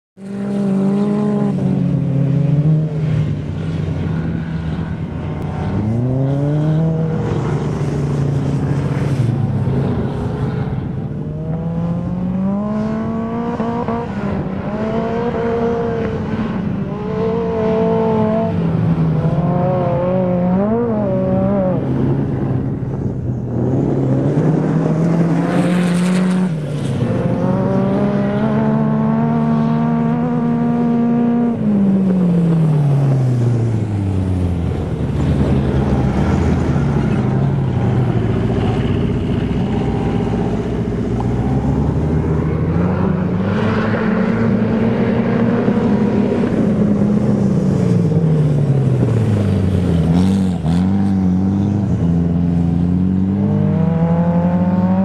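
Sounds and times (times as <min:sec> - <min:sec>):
dune buggy engines revving: 0:00.2 - 0:55.0.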